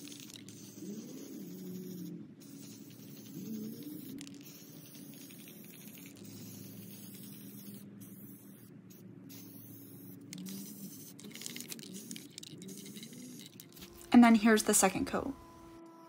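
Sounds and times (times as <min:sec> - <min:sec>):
spray paint can hissing: 0:00.0 - 0:14.1.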